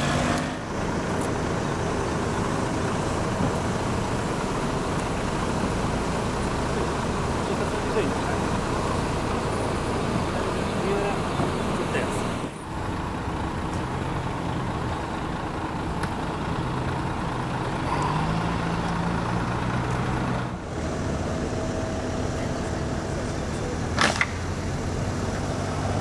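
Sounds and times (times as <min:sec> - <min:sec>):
road traffic noise: 0:00.0 - 0:26.0
vehicle engines idling: 0:00.0 - 0:26.0.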